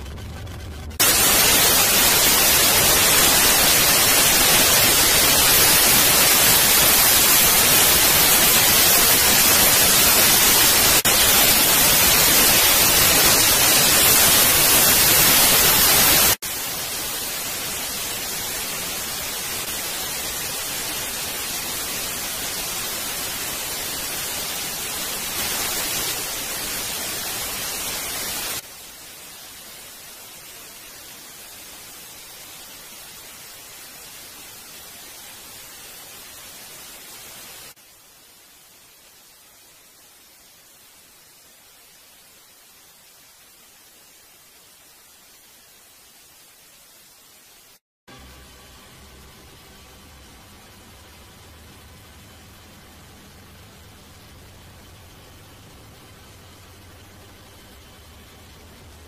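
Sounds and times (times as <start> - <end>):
static hiss: 0.0 - 59.0.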